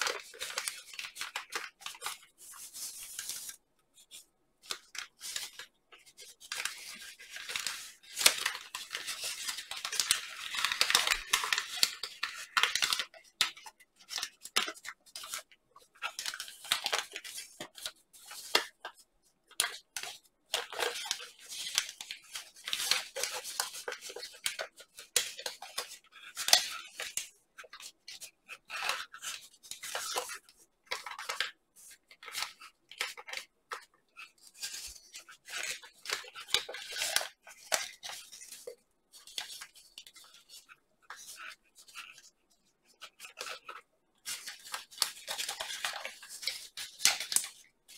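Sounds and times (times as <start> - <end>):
paper crinkling while folded: 0.0 - 47.9.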